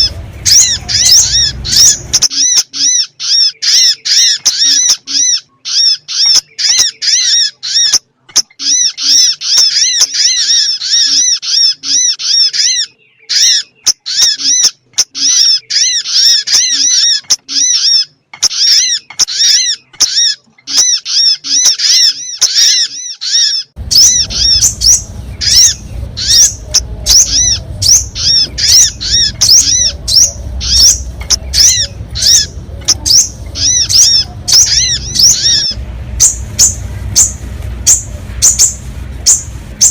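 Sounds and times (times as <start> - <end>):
low rumbling background noise: 0.0 - 22.7, 23.7 - 39.9
high chirping bird calls: 0.0 - 39.9.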